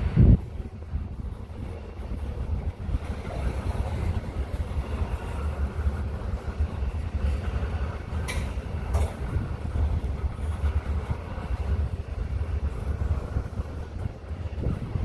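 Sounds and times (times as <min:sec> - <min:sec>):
freight train rumbling by: 0:00.0 - 0:15.0.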